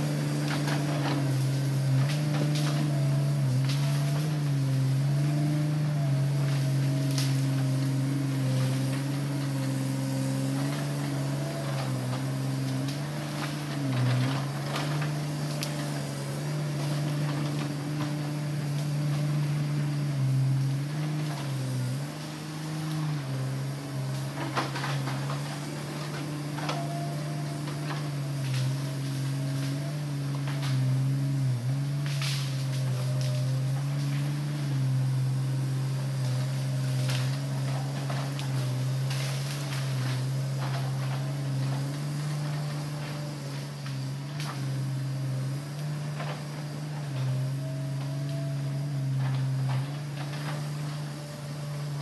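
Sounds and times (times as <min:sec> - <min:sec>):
excavator diesel engine humming: 0:00.0 - 0:52.0.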